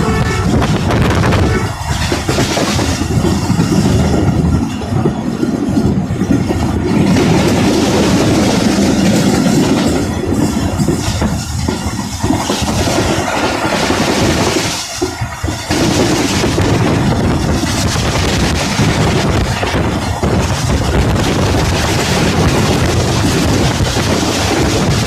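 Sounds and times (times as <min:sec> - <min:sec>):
train wheels clickety-clack on rails: 0:00.0 - 0:25.0.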